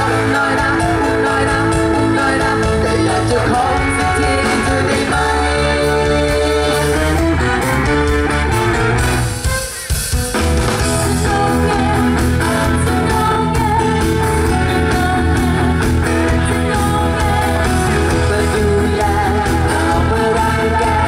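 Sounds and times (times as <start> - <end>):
pop band music with steady beat: 0.0 - 21.0.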